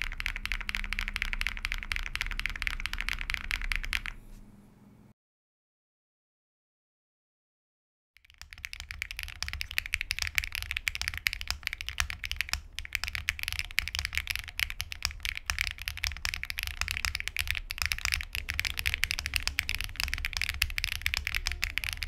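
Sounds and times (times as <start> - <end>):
fast typing on a keyboard: 0.0 - 4.2, 8.2 - 22.0.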